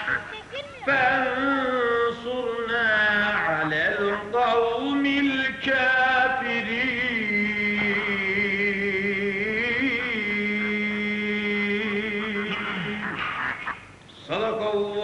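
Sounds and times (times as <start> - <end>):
man singing: 0.8 - 13.0.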